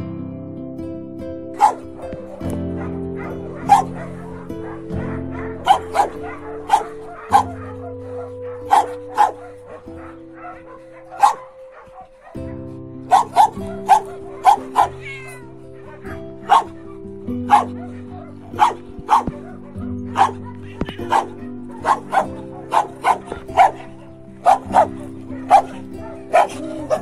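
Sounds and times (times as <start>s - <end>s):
background music: 0.0s - 27.0s
dogs barking: 1.5s - 27.0s.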